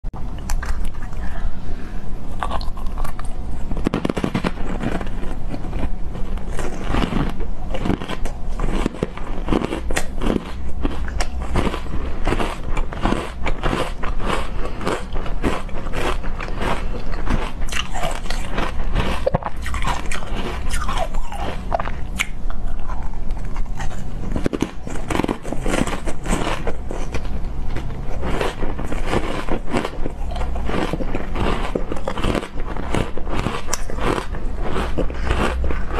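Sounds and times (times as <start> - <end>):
crunchy cookies being chewed: 2.3 - 35.9.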